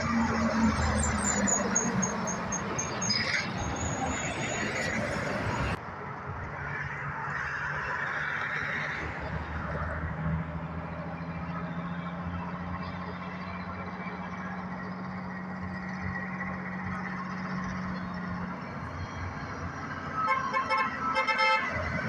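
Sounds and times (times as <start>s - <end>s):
truck engine drone: 0.0s - 22.0s.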